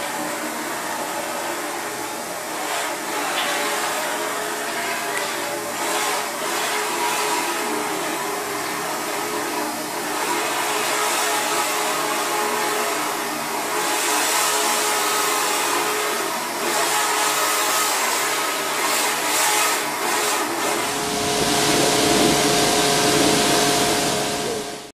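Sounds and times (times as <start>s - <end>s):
pressure washer motor whining: 1.5s - 24.9s
hissing water jet: 2.2s - 24.9s.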